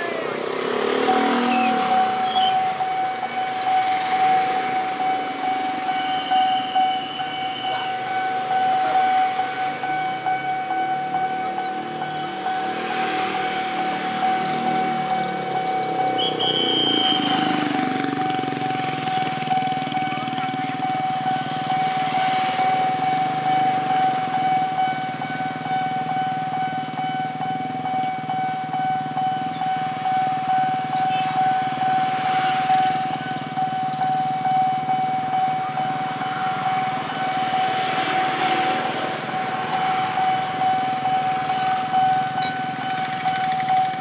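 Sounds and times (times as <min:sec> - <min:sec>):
level crossing alarm tone: 0:00.0 - 0:44.0
motorcycle engines idling: 0:00.0 - 0:44.0.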